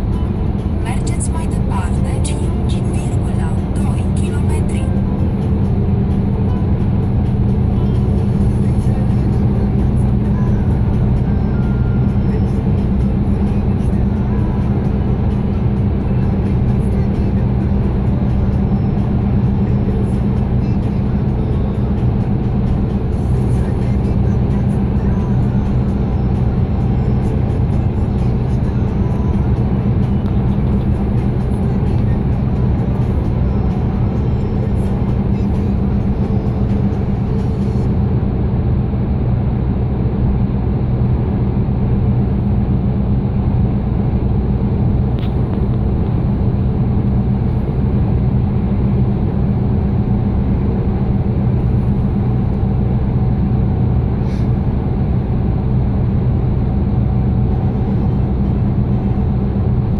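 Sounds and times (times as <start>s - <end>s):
engine drone and road noise: 0.0s - 59.9s.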